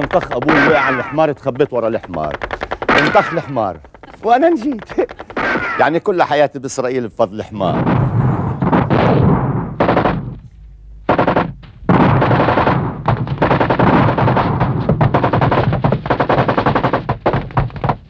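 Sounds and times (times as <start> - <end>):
machine gun firing: 0.0 - 6.0, 7.7 - 17.4.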